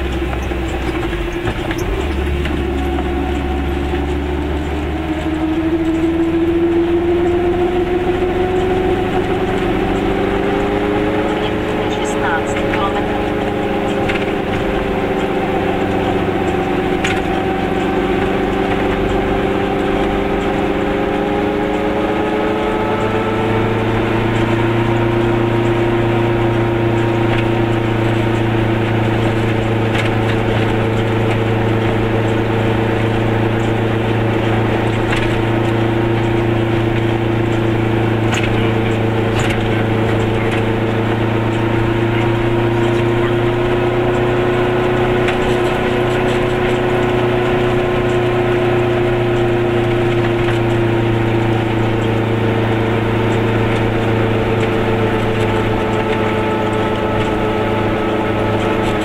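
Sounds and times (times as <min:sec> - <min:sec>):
two-stroke car engine running: 0:00.0 - 0:59.0.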